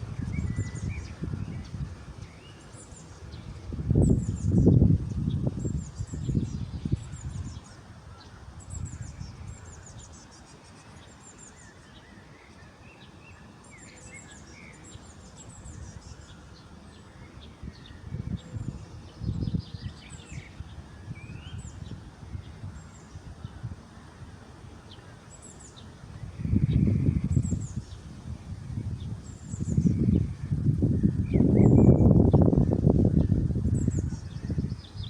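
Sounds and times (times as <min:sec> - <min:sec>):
small birds chirping and trilling: 0:00.0 - 0:35.0.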